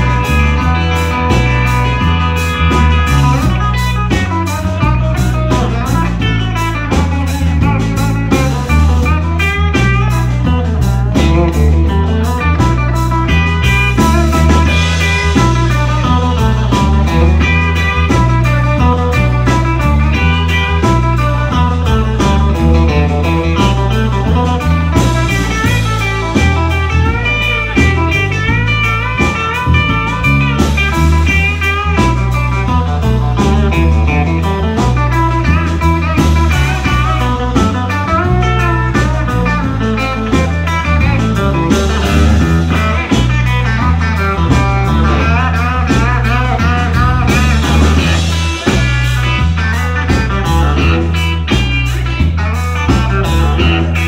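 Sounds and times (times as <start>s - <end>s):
blues band playing: 0.0s - 54.0s
lead electric guitar bent notes: 0.0s - 54.0s.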